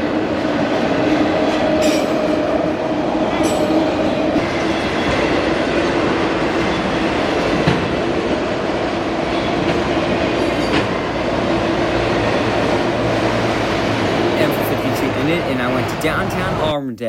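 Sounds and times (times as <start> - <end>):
freight train rolling past: 0.0 - 16.8.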